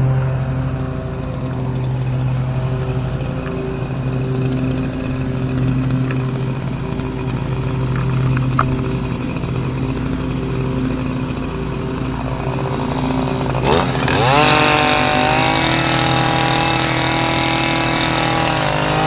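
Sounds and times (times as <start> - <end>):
small gasoline engine humming: 0.0 - 19.0.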